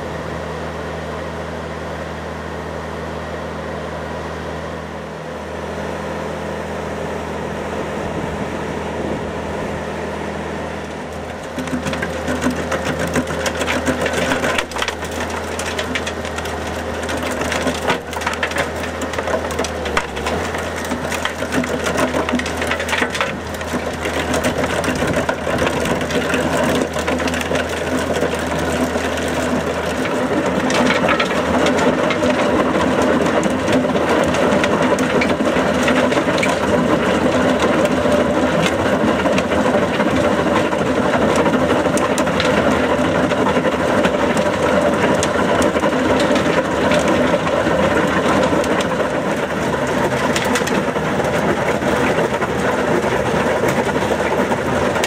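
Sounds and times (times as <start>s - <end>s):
diesel engine running: 0.0s - 55.0s
saw teeth crackling through soil: 10.9s - 55.0s.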